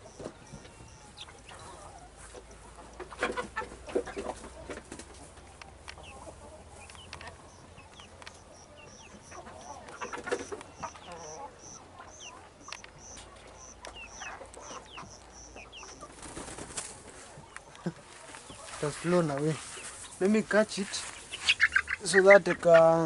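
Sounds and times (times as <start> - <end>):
chickens clucking: 0.0 - 23.0
chicks peeping: 0.0 - 23.0.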